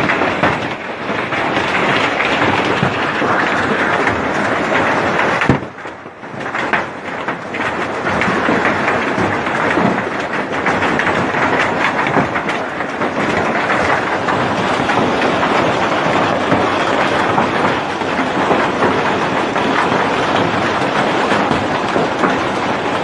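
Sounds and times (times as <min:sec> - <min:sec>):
heavy rain with hail clatter: 0:00.0 - 0:23.0.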